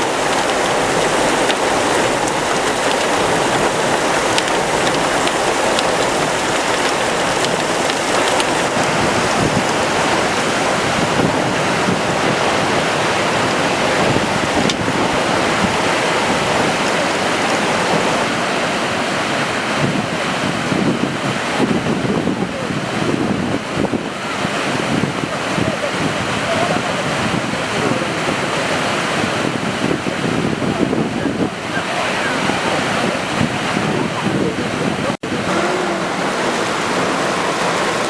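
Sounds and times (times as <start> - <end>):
heavy rain: 0.0 - 38.0
rushing floodwater: 0.0 - 38.0
wind buffeting microphone: 0.0 - 38.0.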